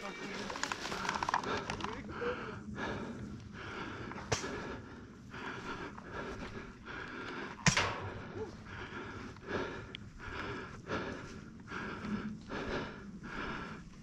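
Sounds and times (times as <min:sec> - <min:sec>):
person breathing hard: 0:00.6 - 0:14.0.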